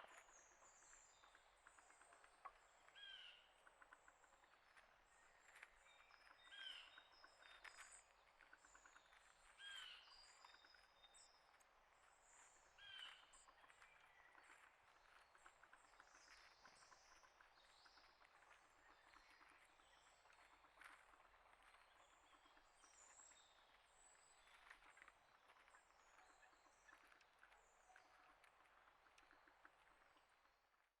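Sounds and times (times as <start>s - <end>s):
birds chirping and twittering: 0.0s - 30.4s
small ticks and clicks: 0.0s - 30.9s.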